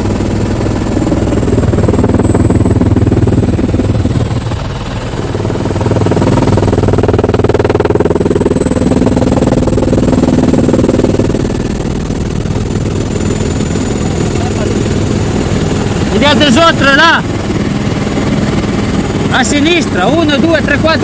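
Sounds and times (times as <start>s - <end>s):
helicopter engine and rotor: 0.0s - 21.0s.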